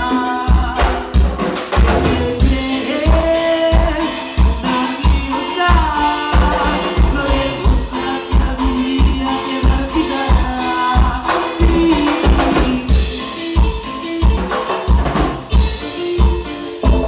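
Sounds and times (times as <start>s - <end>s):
bass drum beat: 0.0s - 17.0s
latin pop song: 0.0s - 17.0s.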